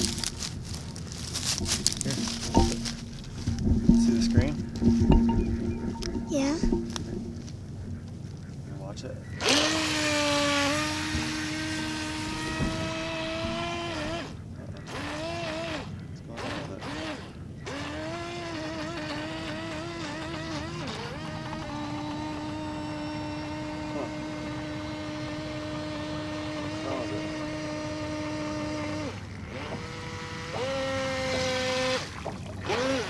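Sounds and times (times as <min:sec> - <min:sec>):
electric motor whining: 0:00.0 - 0:03.7, 0:09.4 - 0:33.0.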